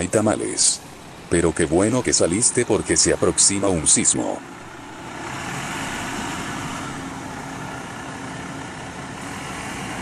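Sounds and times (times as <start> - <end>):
city street traffic: 0.0 - 10.0
faint steady hum: 0.0 - 10.0.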